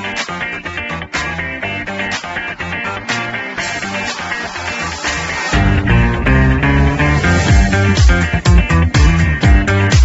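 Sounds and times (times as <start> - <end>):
funky guitar and bass music: 0.0 - 10.0.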